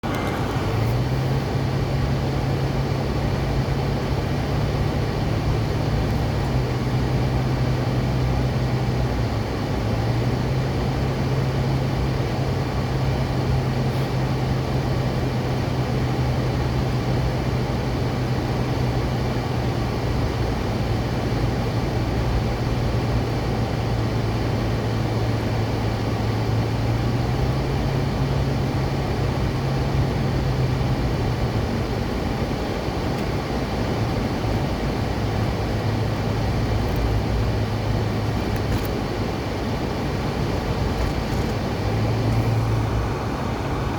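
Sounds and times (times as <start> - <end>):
car engine hum: 0.0 - 43.9
road and tyre noise: 0.0 - 43.9.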